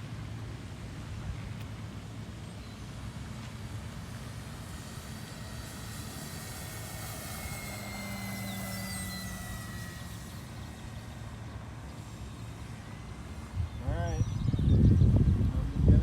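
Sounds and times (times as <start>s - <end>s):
model airplane motor whine: 0.0s - 16.0s.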